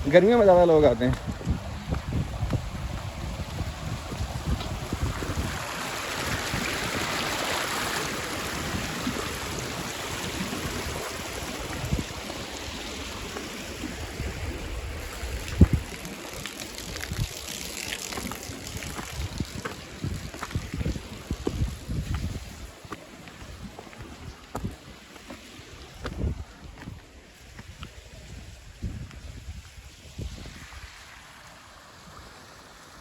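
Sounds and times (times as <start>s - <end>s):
wind buffeting microphone: 0.0s - 7.5s, 8.2s - 25.0s, 25.8s - 30.9s
stream water rushing: 0.0s - 27.6s, 30.0s - 33.0s.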